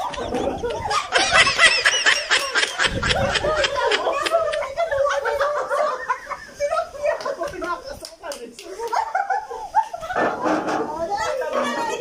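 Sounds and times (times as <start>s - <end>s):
adults laughing: 0.0s - 8.0s, 8.7s - 12.0s.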